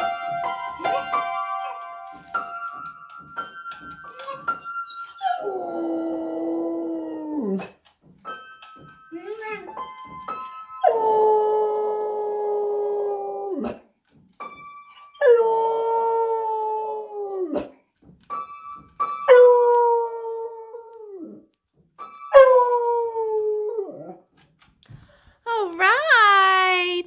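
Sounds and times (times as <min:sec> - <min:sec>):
piano notes: 0:00.0 - 0:24.6.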